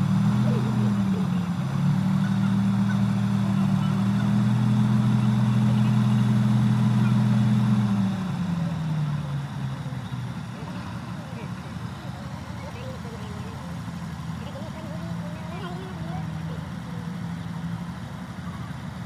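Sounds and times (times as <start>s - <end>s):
diesel engines droning: 0.0s - 19.0s.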